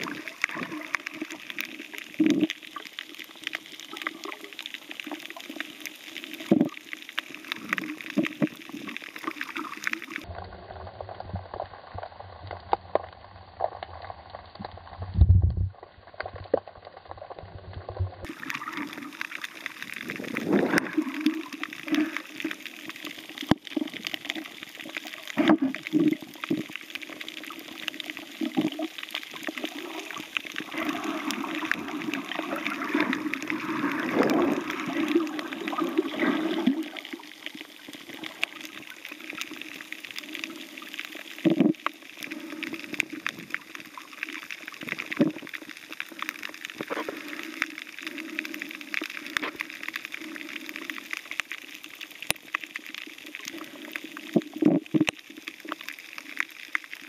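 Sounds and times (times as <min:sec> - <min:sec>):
muffled underwater water rushing: 0:00.0 - 0:57.0
scattered clicks and crackles: 0:00.0 - 0:57.0.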